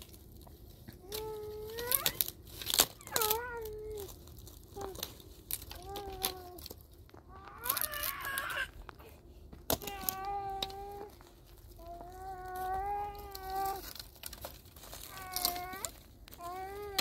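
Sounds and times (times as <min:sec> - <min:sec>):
dry twigs snapping: 0:00.0 - 0:09.0, 0:09.7 - 0:17.0
small child whining cries: 0:00.9 - 0:09.0, 0:09.7 - 0:14.1, 0:14.9 - 0:17.0.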